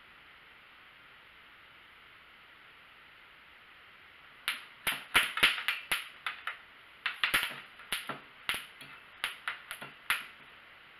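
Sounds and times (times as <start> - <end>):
low hiss: 0.0 - 10.9.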